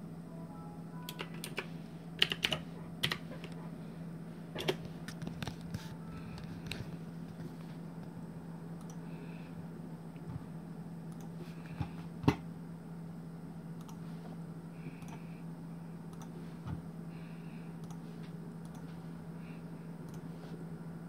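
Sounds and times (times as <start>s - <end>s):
computer hum: 0.0s - 21.0s.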